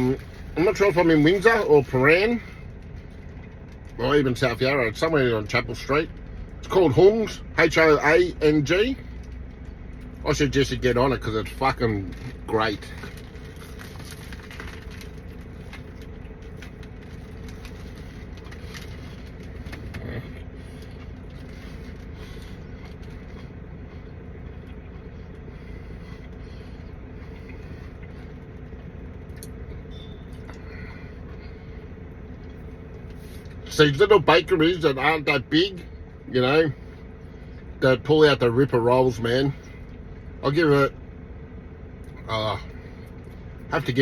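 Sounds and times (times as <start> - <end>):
low rumble of vehicles: 0.0 - 44.0.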